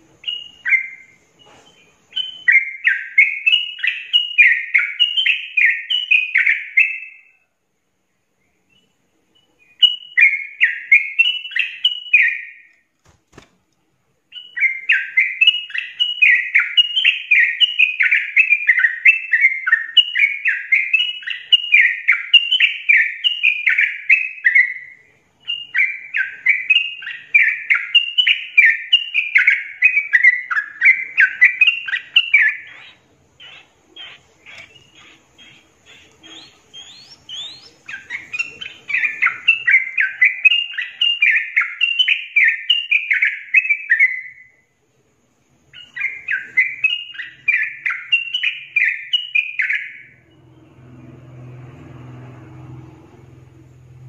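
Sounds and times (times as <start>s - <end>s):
bulbul singing chattering song: 0.0s - 12.9s, 14.2s - 54.0s.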